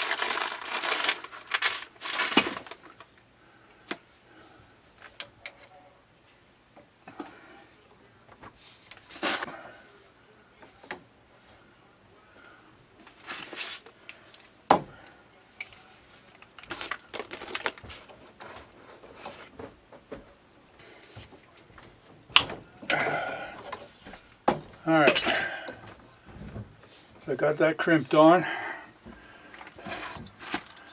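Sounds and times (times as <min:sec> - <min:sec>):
plastic pipe and metal parts rustling: 0:00.0 - 0:05.8, 0:06.7 - 0:09.9, 0:13.0 - 0:30.9.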